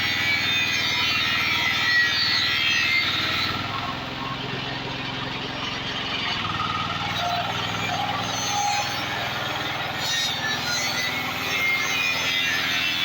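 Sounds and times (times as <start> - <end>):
heavy vehicle engine running: 0.1 - 13.0.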